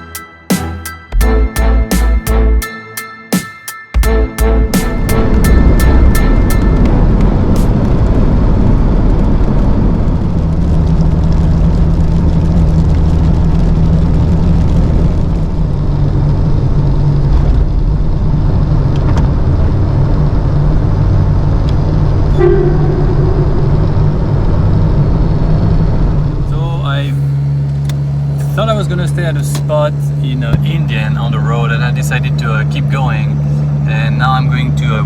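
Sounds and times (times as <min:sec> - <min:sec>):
car engine rumble: 0:04.0 - 0:35.0.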